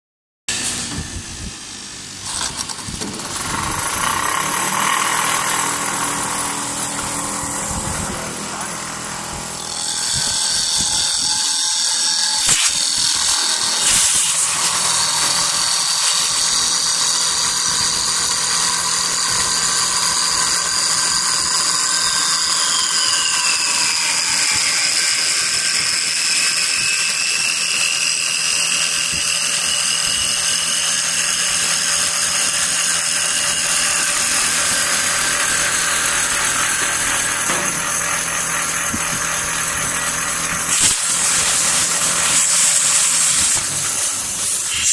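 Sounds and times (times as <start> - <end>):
lathe machine whine: 0.5 - 44.9
wood being shaved on lathe: 0.5 - 44.9.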